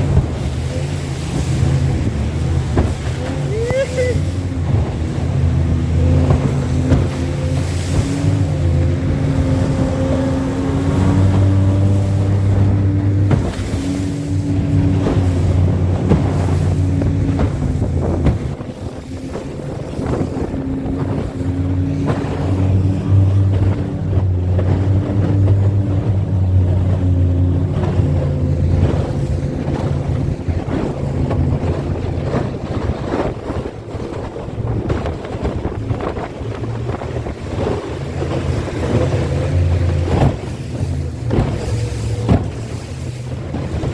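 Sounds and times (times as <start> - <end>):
engine humming: 0.0 - 43.9
wind buffeting microphone: 0.0 - 43.9.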